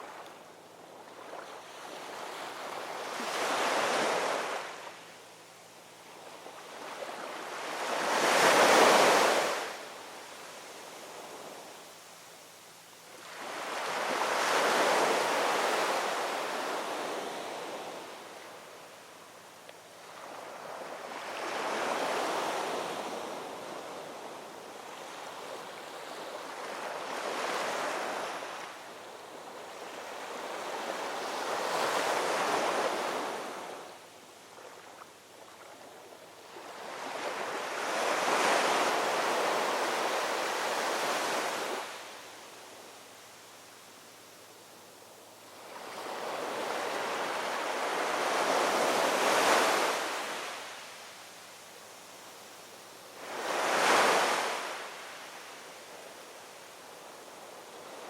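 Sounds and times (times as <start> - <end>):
ocean waves washing ashore: 0.0 - 5.1, 6.0 - 12.1, 13.1 - 58.0.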